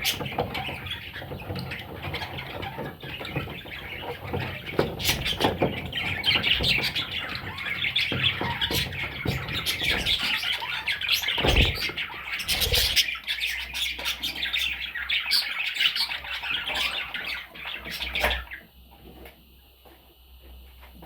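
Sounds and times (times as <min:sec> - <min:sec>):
parrots chattering and squawking: 0:00.0 - 0:18.7.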